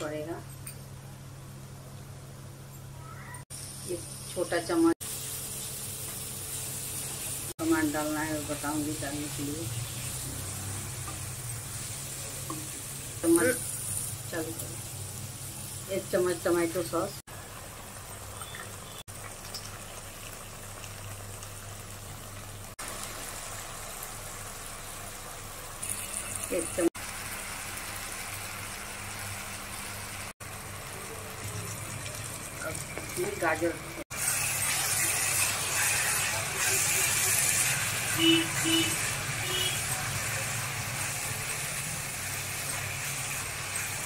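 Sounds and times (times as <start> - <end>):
vegetables sizzling in oil: 3.5 - 44.0.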